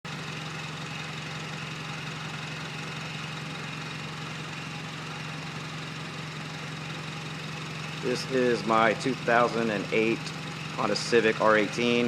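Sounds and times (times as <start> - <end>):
car engine idling: 0.1 - 12.0.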